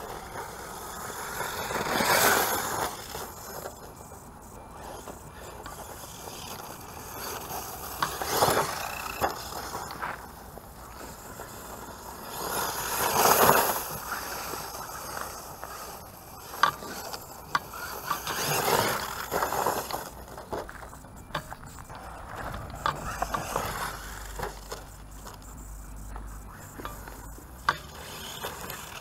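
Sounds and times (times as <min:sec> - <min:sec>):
rc truck motor driving: 0:00.0 - 0:29.0.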